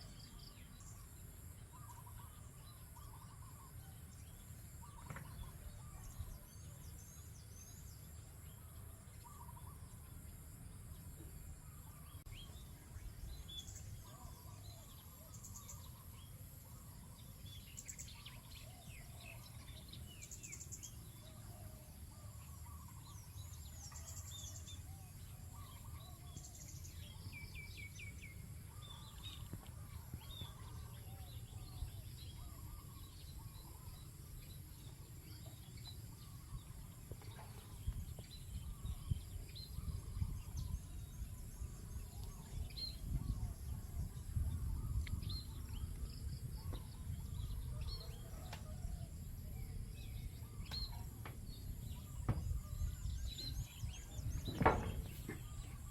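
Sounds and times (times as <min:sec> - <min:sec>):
lower bird calls: 0:00.0 - 0:55.9
small birds chirping and twittering: 0:00.0 - 0:55.9.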